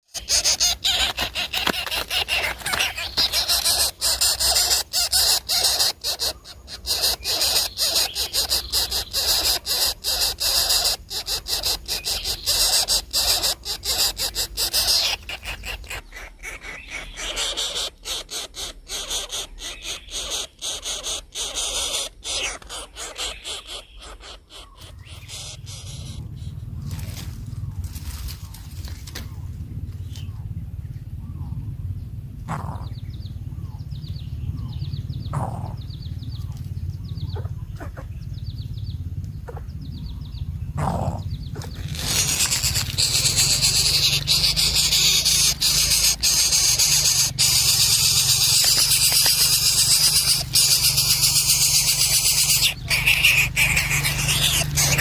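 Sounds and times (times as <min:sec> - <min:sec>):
chicks squealing calls: 0:00.0 - 0:30.6, 0:31.3 - 0:55.0.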